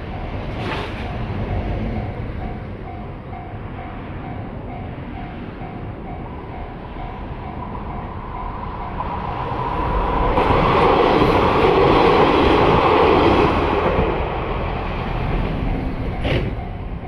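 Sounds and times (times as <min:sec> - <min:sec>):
train rumble and wheel noise: 0:00.0 - 0:17.0.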